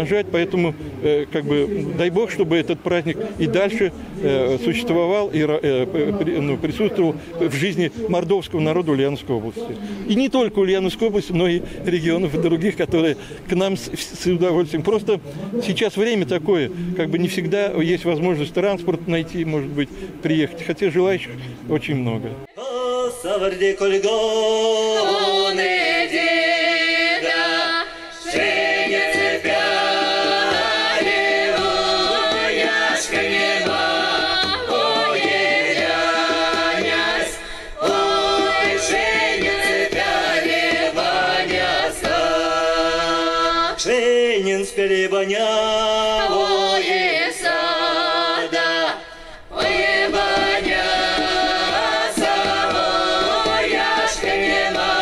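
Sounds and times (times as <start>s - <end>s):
folk choir singing in harmony: 0.0s - 20.2s, 22.4s - 55.0s.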